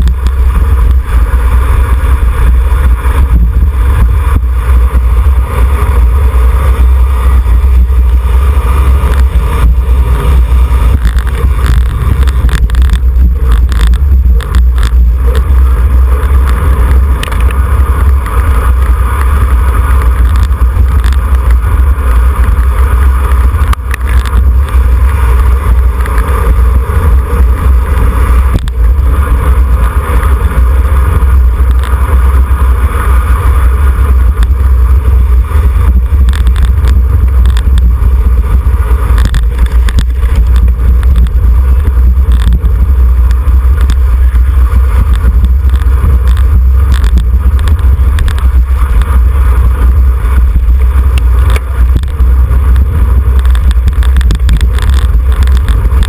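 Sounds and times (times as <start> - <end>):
wind buffeting on microphone: 0.0 - 56.0.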